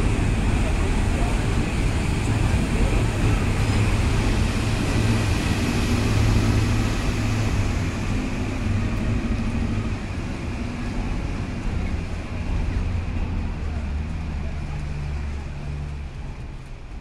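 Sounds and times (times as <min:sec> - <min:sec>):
electric train rumbling on bridge: 0:00.0 - 0:17.0.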